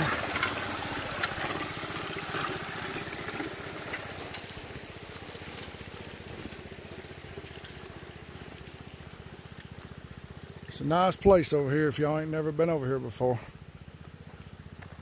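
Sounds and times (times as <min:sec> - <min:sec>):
water spraying: 0:00.0 - 0:12.4
small gas engine running: 0:00.0 - 0:15.0.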